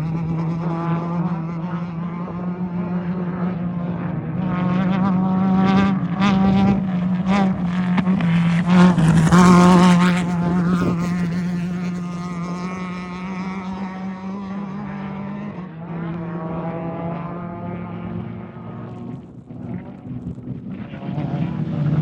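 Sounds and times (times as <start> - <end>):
race vehicle engine revving: 0.0 - 22.0.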